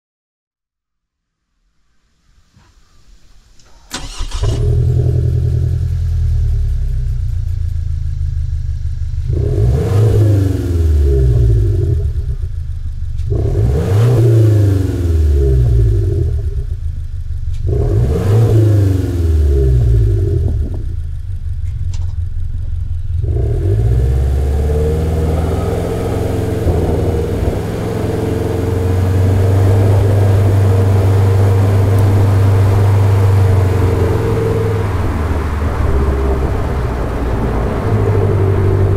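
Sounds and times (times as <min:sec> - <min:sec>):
car exhaust revving: 0:04.0 - 0:38.9.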